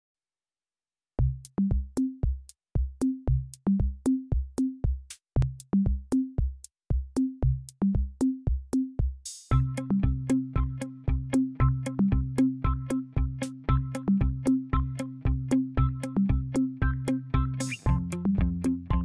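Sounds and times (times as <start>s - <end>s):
electronic drum-machine beat: 1.2s - 19.0s.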